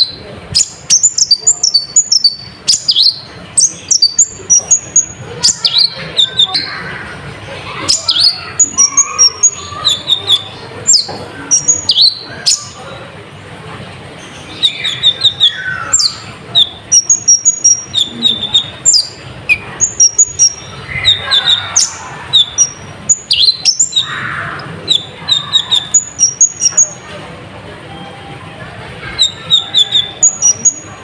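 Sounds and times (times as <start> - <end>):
bird chirping and trilling: 0.0 - 13.3, 14.0 - 27.2, 27.9 - 31.0.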